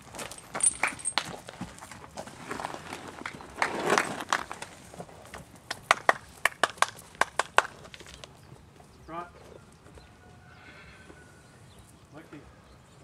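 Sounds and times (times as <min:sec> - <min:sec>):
hooves striking dry dirt: 0:00.0 - 0:10.4.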